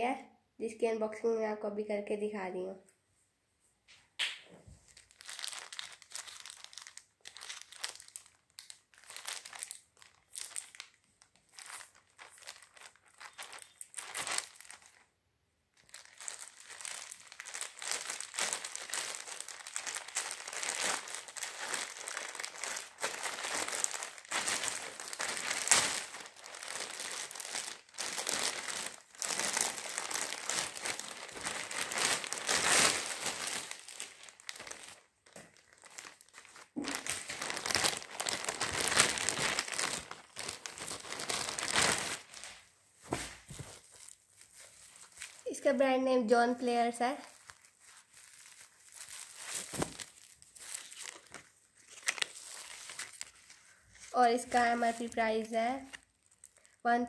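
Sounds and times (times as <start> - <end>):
plastic mailer bag crinkling: 4.9 - 15.1, 15.8 - 45.5, 47.2 - 56.8.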